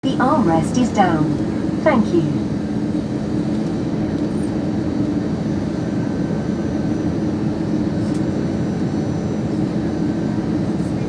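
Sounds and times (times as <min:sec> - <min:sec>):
aircraft engines and airflow rumble: 0:00.0 - 0:11.0
constant low hum: 0:00.0 - 0:11.0.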